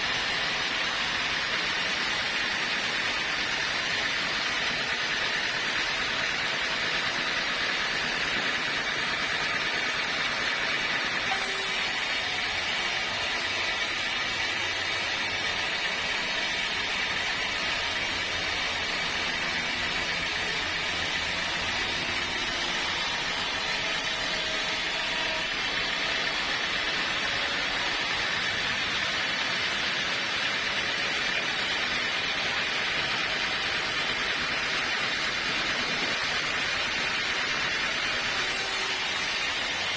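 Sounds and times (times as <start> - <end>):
machine hissing: 0.0 - 39.9.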